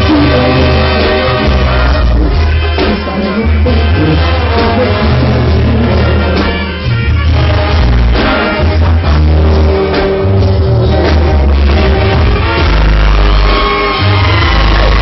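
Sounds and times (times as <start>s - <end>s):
brass band playing: 0.0s - 15.0s
held horn notes: 0.0s - 15.0s
tuba bass line: 0.0s - 15.0s.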